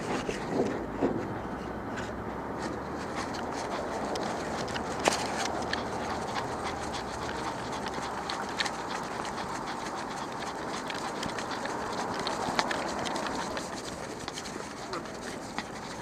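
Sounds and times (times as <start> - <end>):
dog panting: 2.9 - 16.0.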